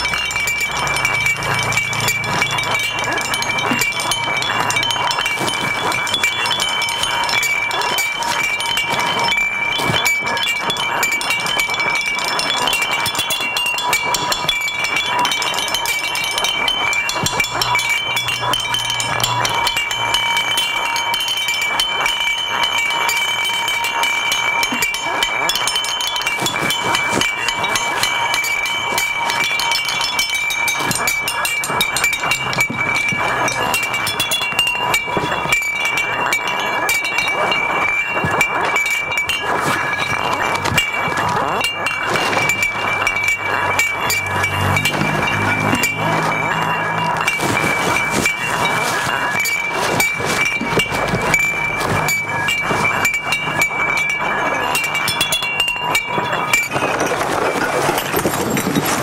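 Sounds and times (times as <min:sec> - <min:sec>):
high ringing tones: 0:00.0 - 0:59.0
recyclable waste clattering: 0:00.0 - 0:59.0.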